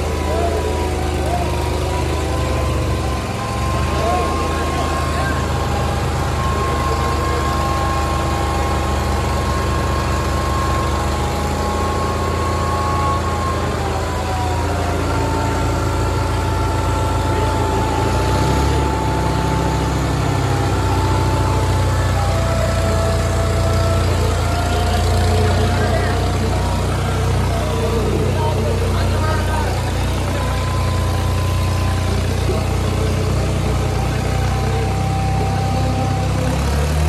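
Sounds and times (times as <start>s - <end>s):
diesel tractor engines under load: 0.0s - 37.0s
high engine whine: 0.0s - 37.0s.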